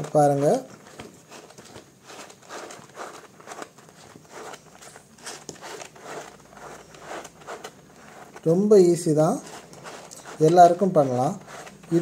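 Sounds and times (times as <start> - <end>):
plastic scraping on paper: 0.0 - 12.0.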